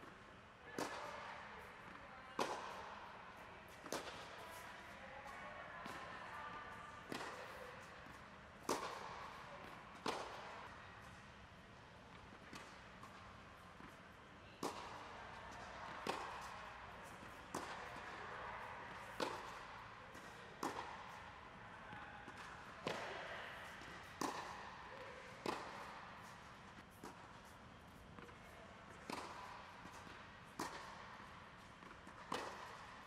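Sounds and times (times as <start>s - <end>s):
tennis balls bouncing on hard court: 0.8s - 33.0s.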